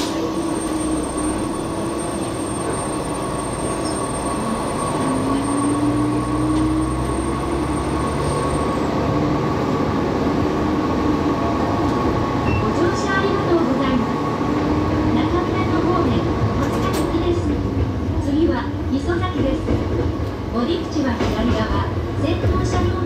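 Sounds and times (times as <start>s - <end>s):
diesel railcar engine: 0.0s - 23.0s.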